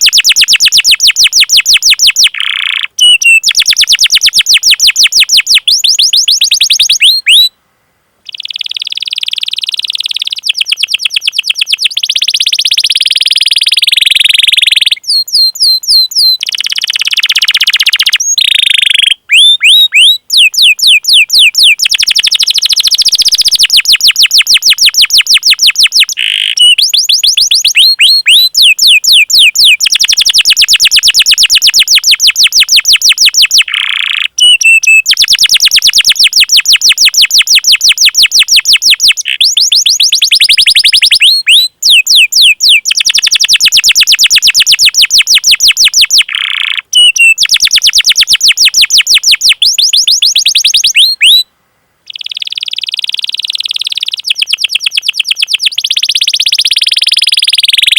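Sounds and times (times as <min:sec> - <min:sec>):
canary singing trills: 0:00.0 - 0:07.6, 0:08.2 - 0:57.9.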